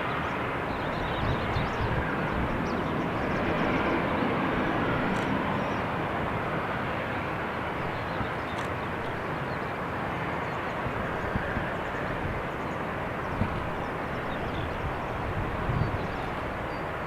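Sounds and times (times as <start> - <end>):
airliner jet engine passing: 0.0 - 17.0.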